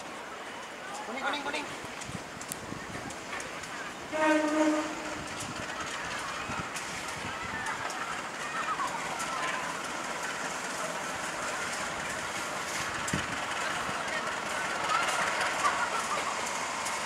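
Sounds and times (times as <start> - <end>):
faint voices chattering: 0.0 - 17.0
locomotive running past: 0.0 - 17.0
wheel click on rails: 0.6 - 17.0.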